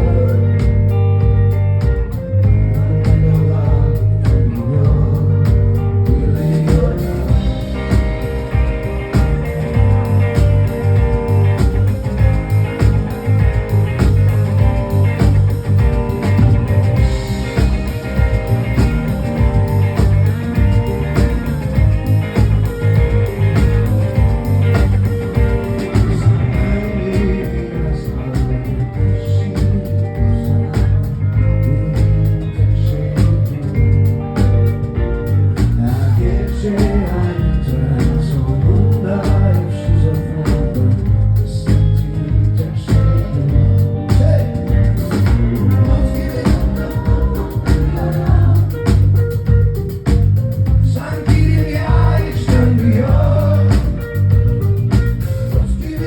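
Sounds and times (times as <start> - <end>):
bass: 0.0 - 56.0
drums: 0.0 - 56.0
electric guitar: 0.0 - 56.0.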